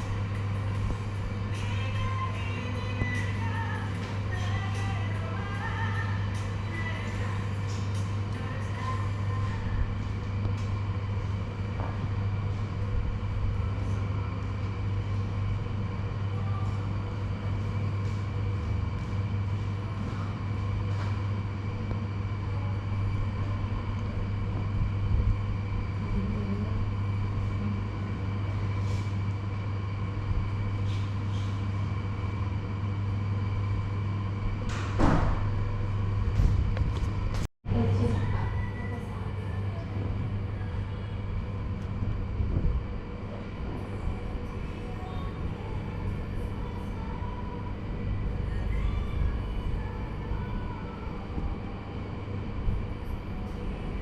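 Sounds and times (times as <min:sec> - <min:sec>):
low electric hum: 0:00.0 - 0:54.0.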